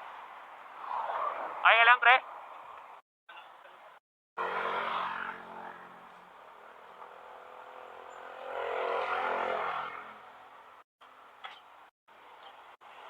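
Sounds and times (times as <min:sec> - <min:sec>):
traffic passing on city road: 0:00.0 - 0:13.0.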